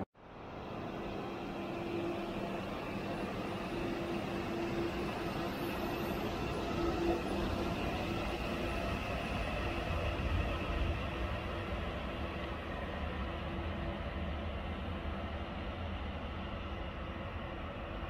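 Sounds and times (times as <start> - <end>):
electric train humming and rumbling: 0.0 - 18.0.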